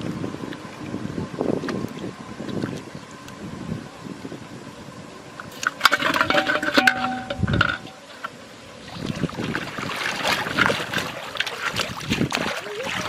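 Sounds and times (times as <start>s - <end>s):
water splashing and sloshing: 0.0s - 3.4s, 5.3s - 13.0s.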